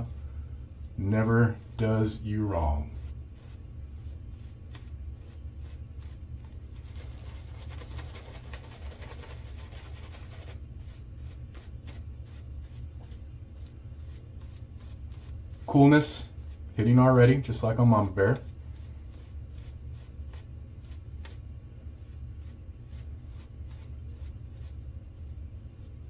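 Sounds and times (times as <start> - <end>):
shaving brush swishing lather: 0.0 - 26.0.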